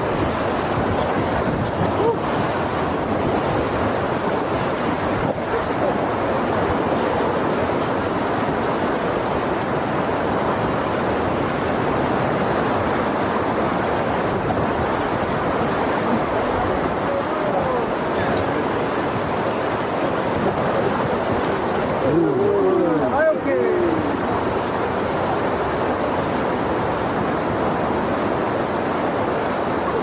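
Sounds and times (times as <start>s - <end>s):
wind buffeting microphone: 0.0s - 28.4s
whitewater rapids rushing: 0.0s - 30.0s.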